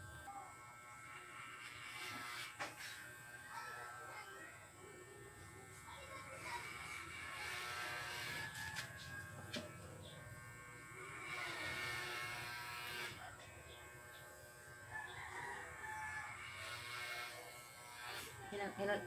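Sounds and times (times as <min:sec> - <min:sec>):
electric hair clipper buzzing: 0:00.0 - 0:14.9, 0:15.6 - 0:19.0.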